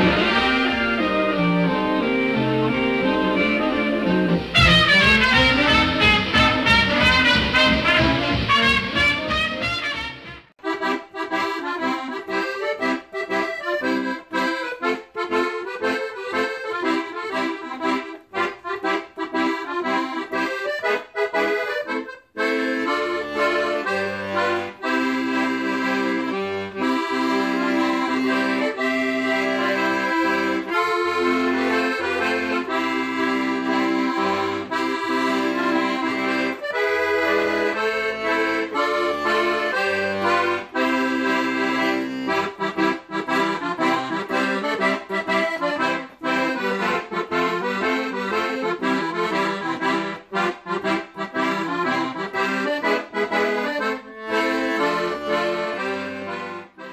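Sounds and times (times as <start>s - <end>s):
accordion music: 0.0s - 56.9s.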